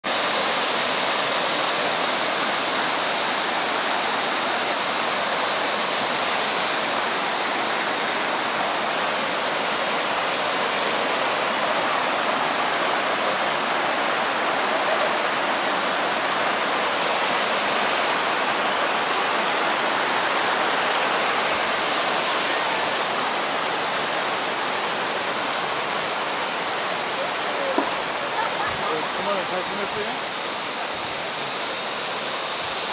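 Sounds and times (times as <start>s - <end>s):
stream rushing over boulders: 0.0s - 32.9s.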